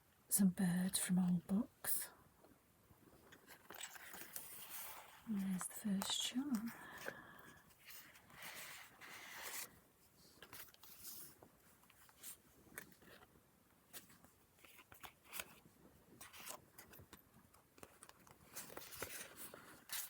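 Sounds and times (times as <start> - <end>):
paper pages rustling and clicking: 3.3 - 13.3, 13.9 - 20.0.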